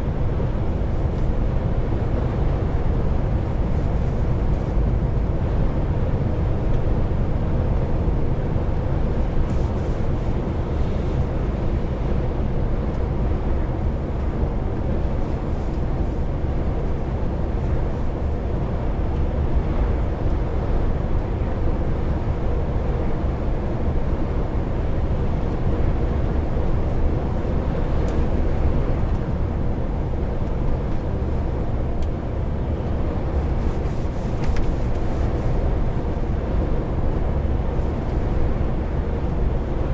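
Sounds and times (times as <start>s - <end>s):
diesel truck engine running: 0.0s - 39.9s
low road rumble: 0.0s - 39.9s.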